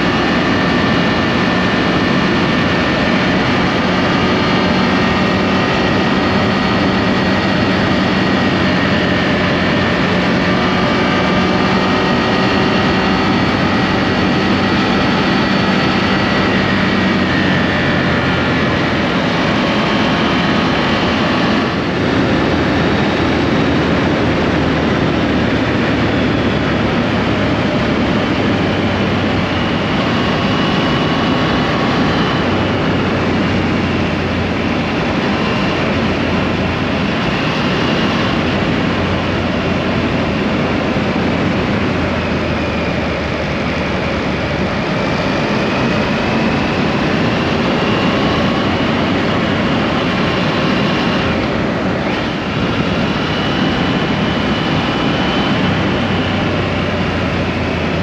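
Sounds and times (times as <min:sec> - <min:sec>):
motorcycle engine drone: 0:00.0 - 0:58.0
wind and road noise: 0:00.0 - 0:58.0.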